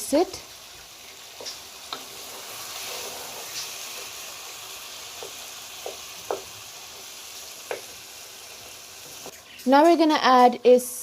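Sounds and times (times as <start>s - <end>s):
meat sizzling in hot oil: 0.0s - 10.5s.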